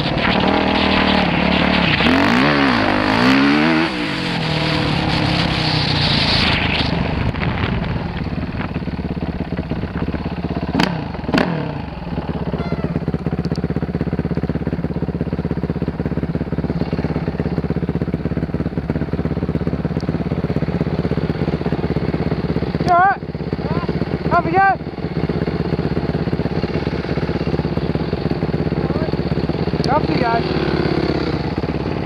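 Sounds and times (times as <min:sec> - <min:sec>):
dirt bike engine blips: 0:00.0 - 0:32.0
dirt bike engine idling: 0:00.0 - 0:32.0.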